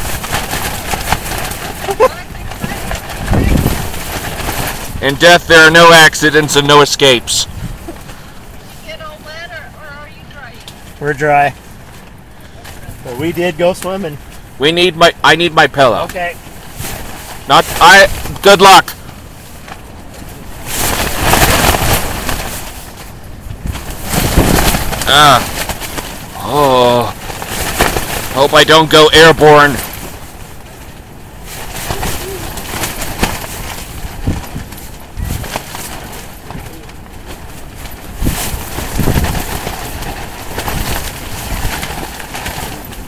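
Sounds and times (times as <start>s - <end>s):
wind rumbling on microphone: 0.0s - 14.8s, 16.2s - 43.0s
tent walls flapping in wind: 0.0s - 43.0s.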